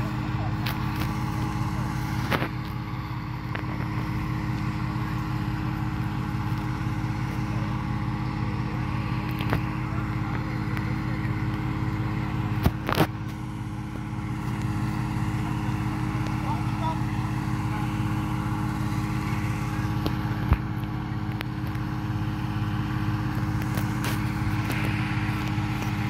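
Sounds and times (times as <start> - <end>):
engine humming steadily: 0.0 - 26.0.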